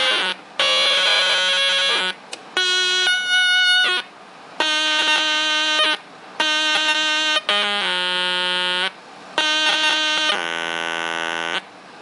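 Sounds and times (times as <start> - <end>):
distorted toy keyboard notes: 0.0 - 11.7.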